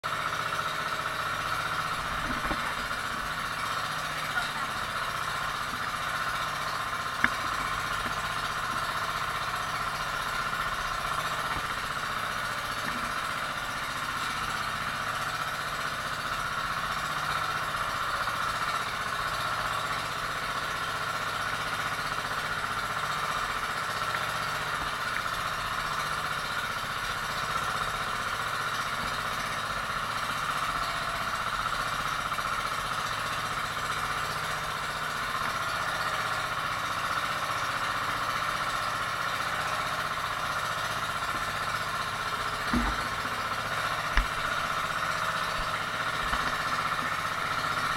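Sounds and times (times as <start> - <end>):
boat engine drone: 0.1 - 47.9.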